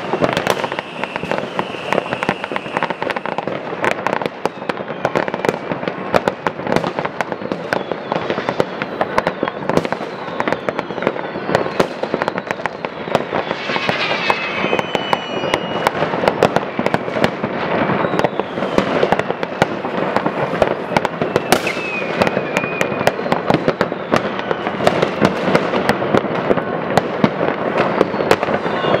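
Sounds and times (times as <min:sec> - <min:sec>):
firecrackers and rocket bangs: 0:00.0 - 0:29.0
whistling fireworks shrieking: 0:00.0 - 0:29.0.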